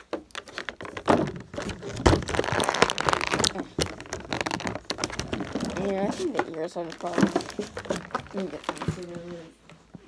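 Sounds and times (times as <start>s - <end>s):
sharp clicks and thunks: 0.0s - 9.3s
plastic packaging crackling: 0.0s - 9.4s.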